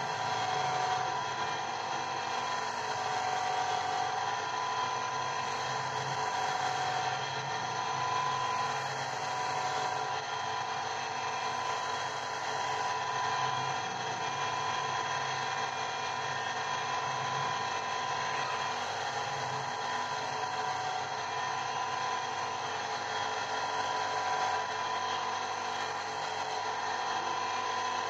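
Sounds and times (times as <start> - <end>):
grinding wheel grinding stone: 0.0 - 28.0.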